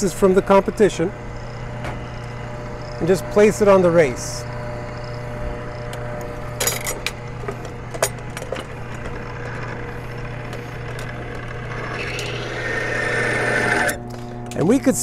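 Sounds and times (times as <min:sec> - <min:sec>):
scraping grinding noise: 0:00.0 - 0:14.4
motor hum: 0:00.0 - 0:15.0.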